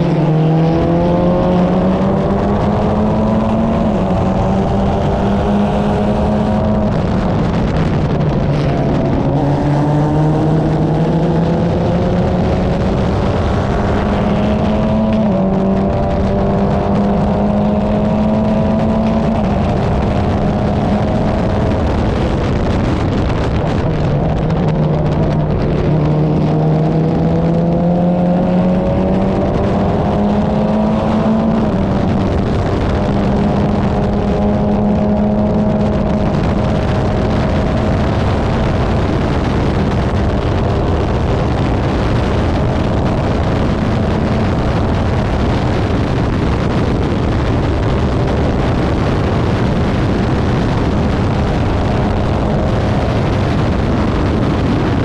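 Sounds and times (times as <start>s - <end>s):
race car engine at high revs: 0.0s - 55.0s
wind and road noise: 0.0s - 55.0s.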